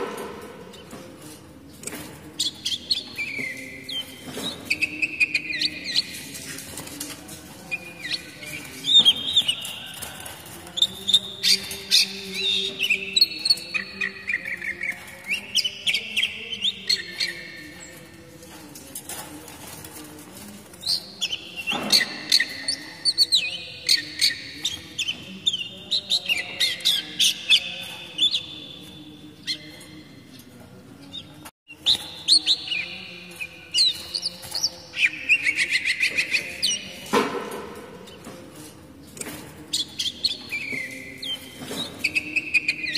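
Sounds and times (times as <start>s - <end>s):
bird singing whistles and chatter: 1.7s - 18.2s, 20.7s - 30.5s, 31.1s - 37.2s, 39.1s - 42.9s.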